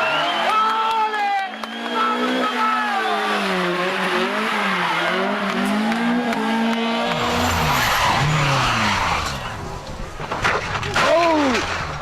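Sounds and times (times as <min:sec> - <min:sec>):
rally car engine revving: 0:01.6 - 0:12.0.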